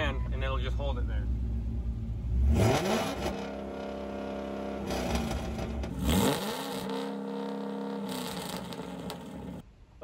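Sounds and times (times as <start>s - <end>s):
car engine revving: 1.2s - 9.6s.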